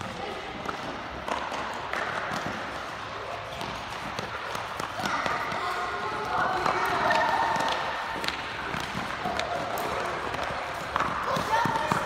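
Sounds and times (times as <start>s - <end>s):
children's running footsteps: 0.0s - 12.0s.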